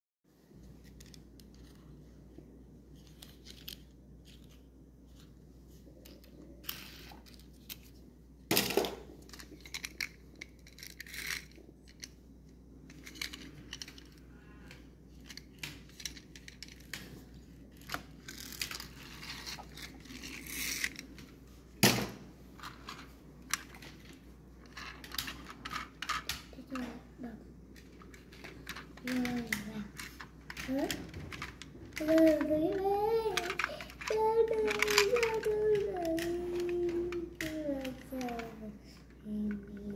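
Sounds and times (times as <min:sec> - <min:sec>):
toy cars clicking and rubbing: 0:00.8 - 0:02.0, 0:02.9 - 0:08.0, 0:09.0 - 0:12.2, 0:12.8 - 0:21.4, 0:22.6 - 0:27.0, 0:27.7 - 0:39.9.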